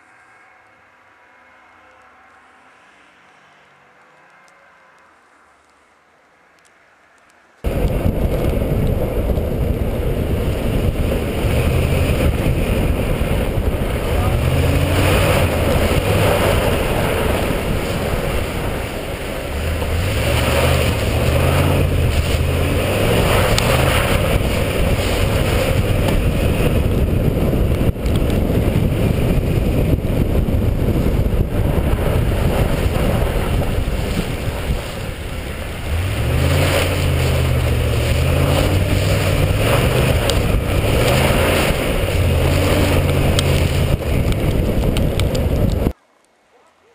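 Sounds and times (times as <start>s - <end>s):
wind and driving noise: 0.0s - 46.3s
truck engine revving: 7.6s - 46.0s.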